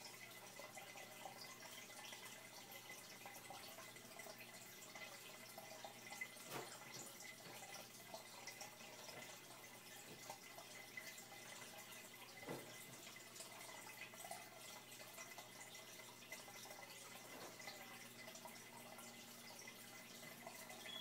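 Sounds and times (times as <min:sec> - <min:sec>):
water drips: 0:00.0 - 0:21.0
water trickling into fish tank: 0:00.0 - 0:21.0.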